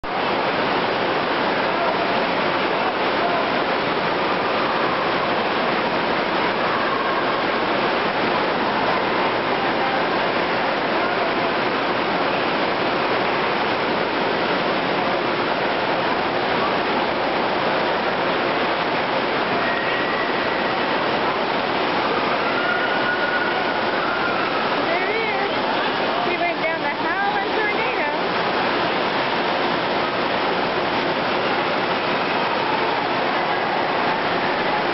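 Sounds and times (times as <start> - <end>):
water gushing loudly: 0.0 - 34.9.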